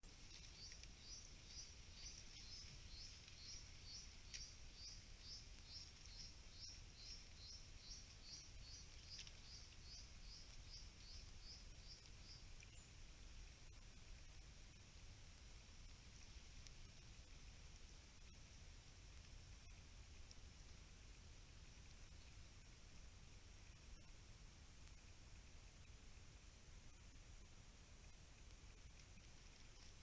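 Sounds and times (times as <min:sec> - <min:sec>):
low steady hiss: 0:00.0 - 0:30.0.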